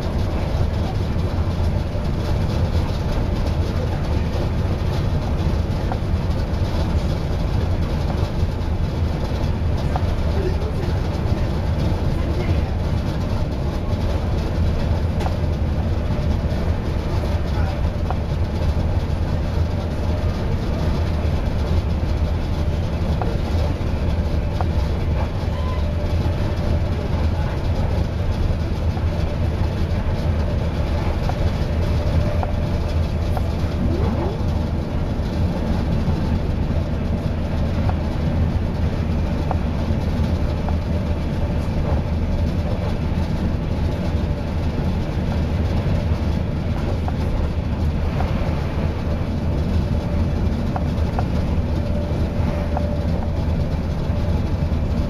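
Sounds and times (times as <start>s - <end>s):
train rumbling at speed: 0.0s - 55.0s.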